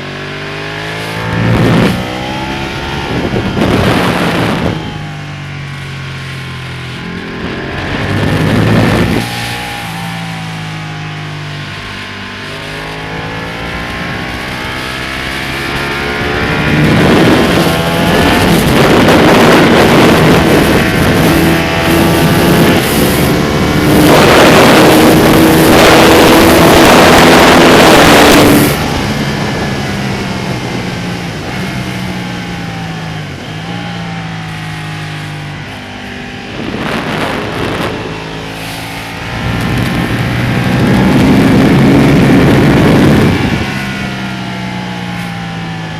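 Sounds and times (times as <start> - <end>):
motorcycle engine accelerating: 0.0 - 45.9
rushing wind: 0.0 - 45.9.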